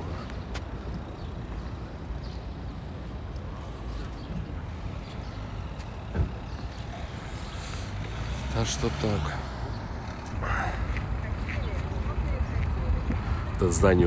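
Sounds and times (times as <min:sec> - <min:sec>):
rumble of passing cars: 0:00.0 - 0:14.0.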